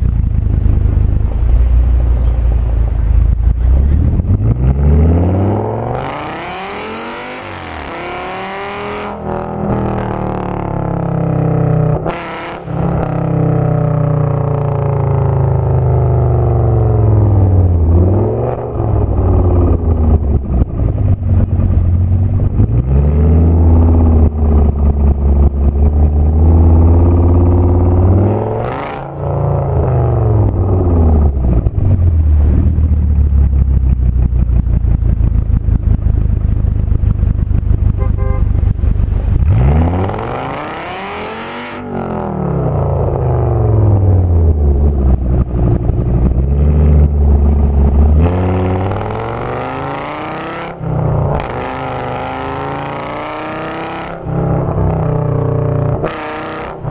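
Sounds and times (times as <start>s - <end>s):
exhaust crackle: 0.0s - 8.0s, 9.1s - 41.3s, 42.0s - 56.2s
car engine revving through loud exhaust: 0.0s - 56.9s.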